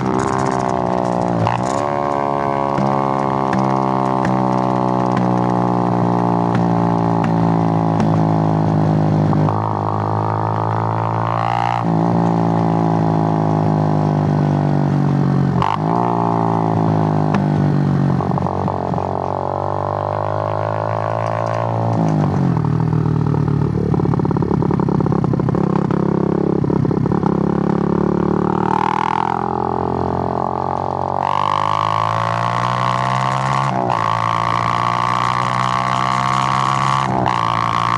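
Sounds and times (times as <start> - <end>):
motorcycle engine changing gears: 0.0 - 13.5, 15.6 - 37.9.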